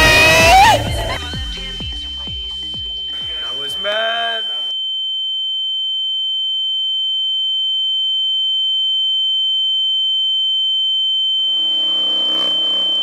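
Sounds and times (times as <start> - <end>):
high-pitched electronic sine tone: 0.0 - 13.0.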